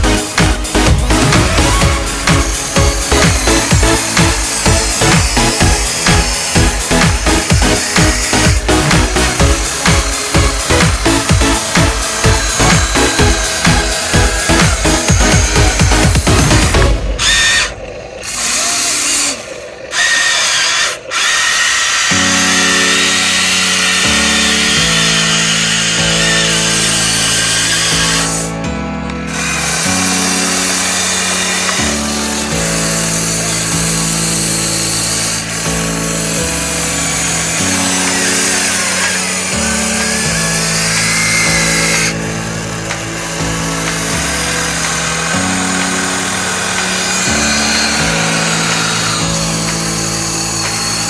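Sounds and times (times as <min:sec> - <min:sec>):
background music: 0:00.0 - 0:18.4, 0:22.1 - 0:51.0
small electric motors whining: 0:00.0 - 0:28.6, 0:29.2 - 0:51.0.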